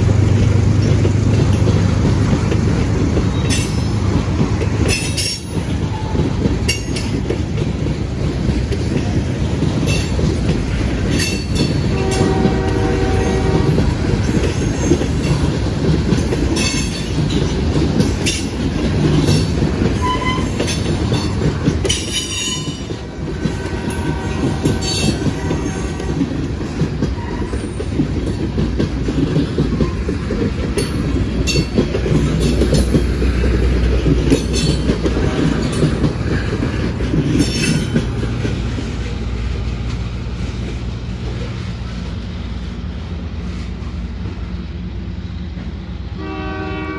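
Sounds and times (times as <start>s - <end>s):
wheels clacking over rail joints: 0.0s - 42.8s.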